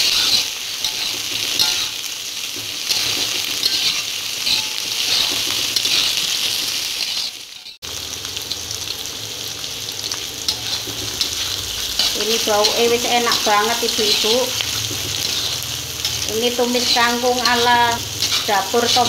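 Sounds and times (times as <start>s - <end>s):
metal spatula scraping wok: 0.0s - 7.8s, 10.1s - 19.0s
food sizzling in hot oil: 0.0s - 19.0s.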